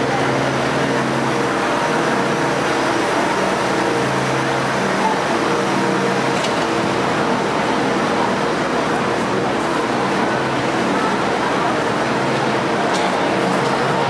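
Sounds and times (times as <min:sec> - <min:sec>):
crowd murmur: 0:00.0 - 0:14.0.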